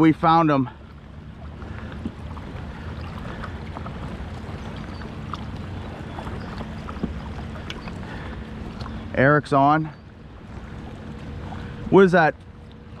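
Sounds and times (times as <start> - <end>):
river water washing: 0.0 - 13.0
faint small ticks and splashes: 0.4 - 13.0.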